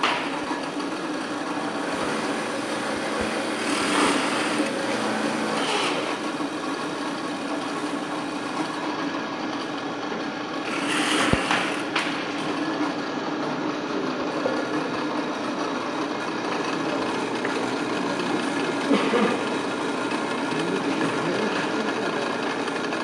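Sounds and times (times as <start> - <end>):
drill press boring into wood: 0.0 - 23.0.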